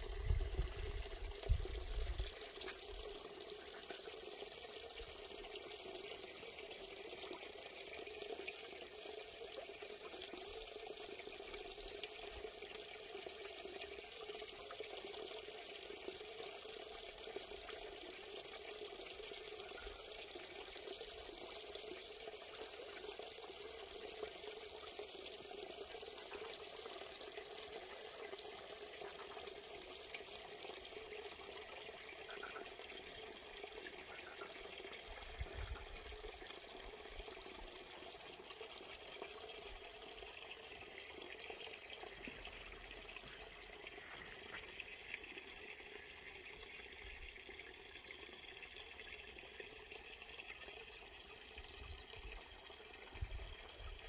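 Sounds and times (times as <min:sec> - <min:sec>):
small stream flowing: 0:00.0 - 0:54.0.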